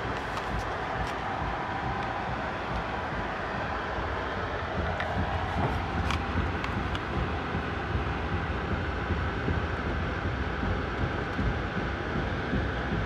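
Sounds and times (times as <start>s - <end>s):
train ride rumble: 0.0s - 13.0s.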